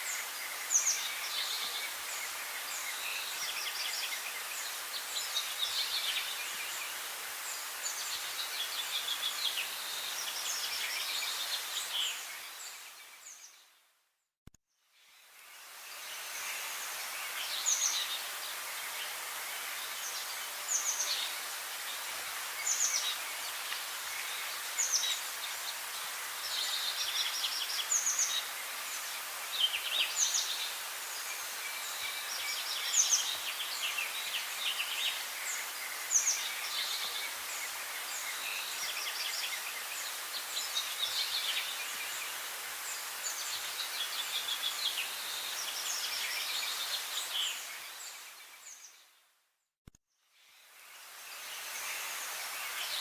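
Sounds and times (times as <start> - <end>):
steady high hiss: 0.0 - 13.6, 15.0 - 49.0, 50.4 - 53.0
songbirds chirping: 0.0 - 13.9, 14.8 - 49.3.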